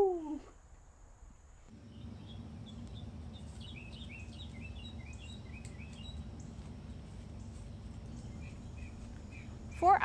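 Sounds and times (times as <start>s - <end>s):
birds chirping: 1.7s - 10.0s
low background rumble: 1.7s - 10.0s.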